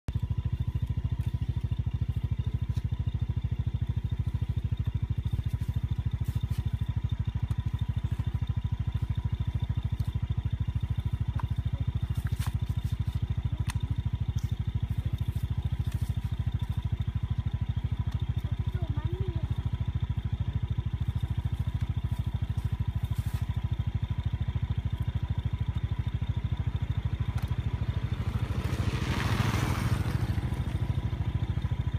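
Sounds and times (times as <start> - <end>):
small engine chugging: 0.1 - 31.9.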